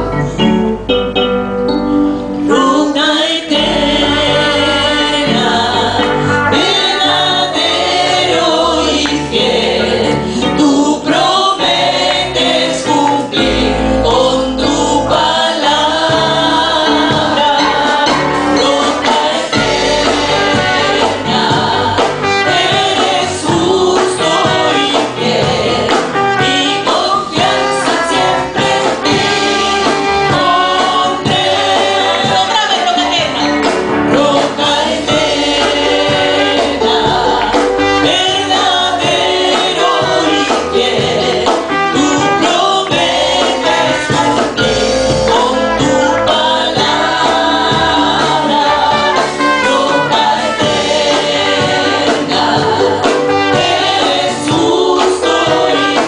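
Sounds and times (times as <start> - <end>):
women singing together: 2.5 - 56.0
band with drums and bass: 3.5 - 56.0.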